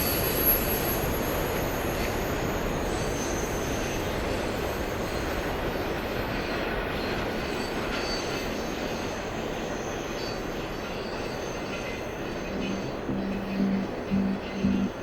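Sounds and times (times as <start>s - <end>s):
train wheels rumbling on rail: 0.0s - 14.8s.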